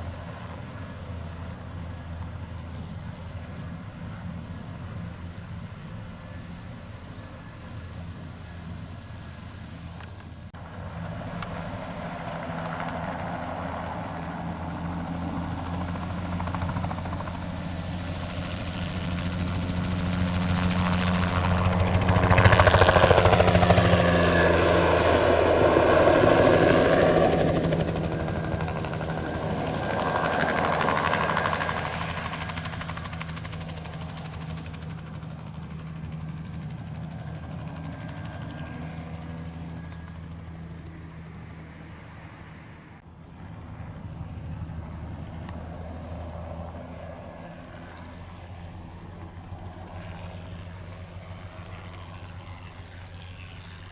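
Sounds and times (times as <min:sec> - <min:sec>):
helicopter rotor and turbine: 0:00.0 - 0:53.9.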